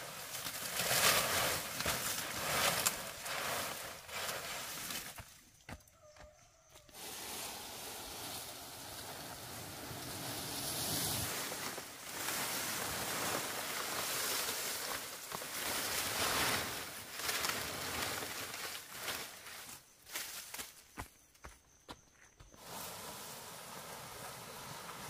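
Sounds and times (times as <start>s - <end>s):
dry palm fronds rustling: 0.0s - 5.8s, 6.9s - 21.1s, 22.6s - 25.0s.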